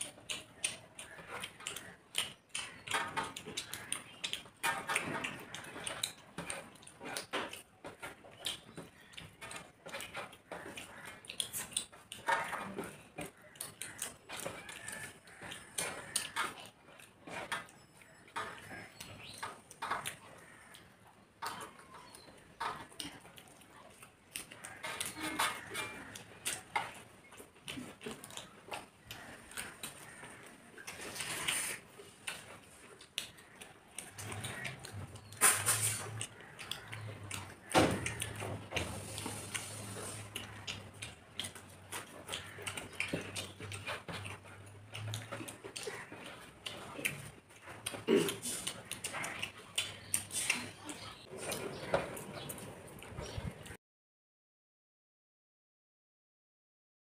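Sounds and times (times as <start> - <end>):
chewing and lip-smacking: 0.0 - 53.8.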